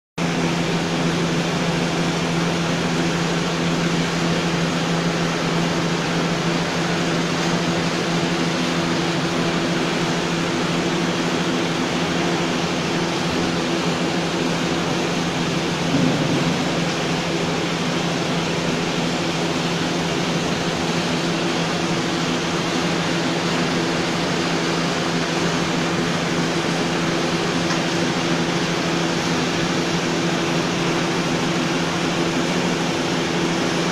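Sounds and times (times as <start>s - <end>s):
production line machine drone: 0.2s - 33.9s.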